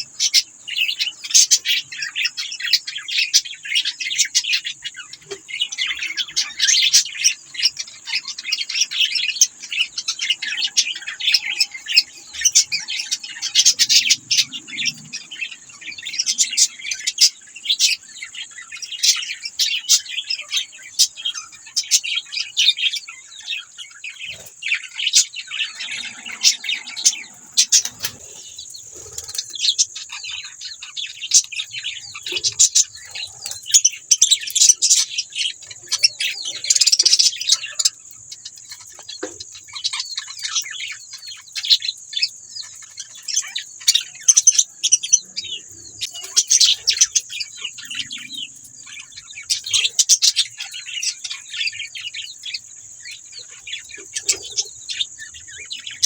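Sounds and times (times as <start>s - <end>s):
budgerigars chattering: 0.0s - 56.0s
steady high-pitched hiss: 0.0s - 56.0s.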